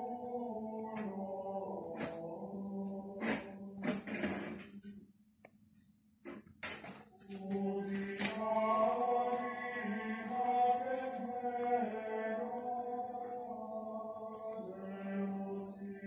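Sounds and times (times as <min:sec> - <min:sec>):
choir singing a slow chant: 0:00.0 - 0:04.6, 0:07.2 - 0:16.0.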